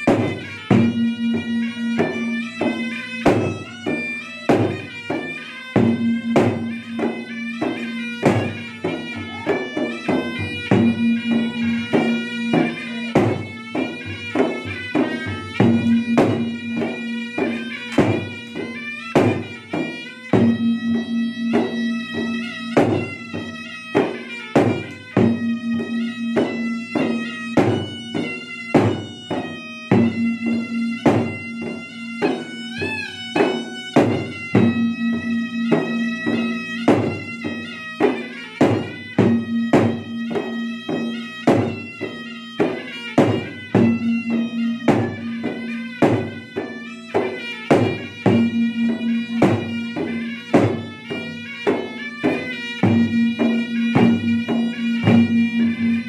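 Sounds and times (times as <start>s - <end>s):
hand drums in fast rhythm: 0.0s - 56.0s
shawm melody: 0.0s - 56.0s.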